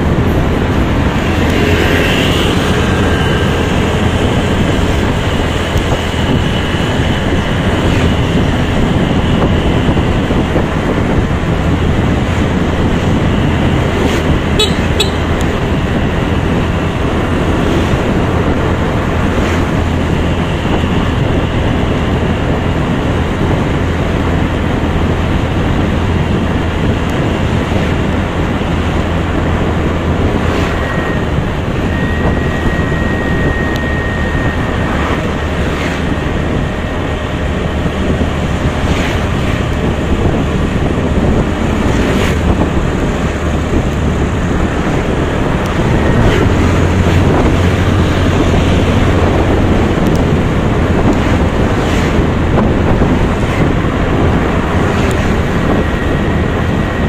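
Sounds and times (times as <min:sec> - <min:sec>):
road and traffic noise: 0:00.0 - 0:57.0
wind rushing over microphone: 0:00.0 - 0:57.0.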